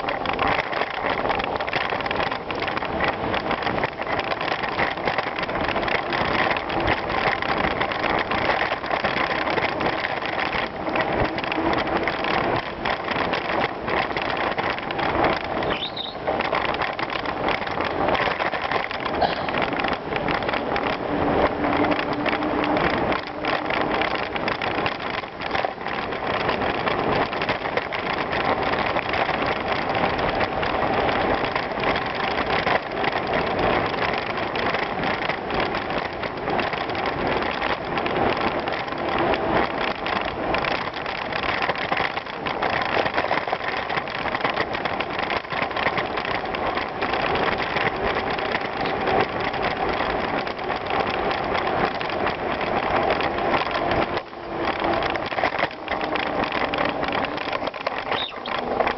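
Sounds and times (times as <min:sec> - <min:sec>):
bicycle tyres on gravel: 0:00.0 - 0:58.9
bike rattling: 0:00.0 - 0:58.9.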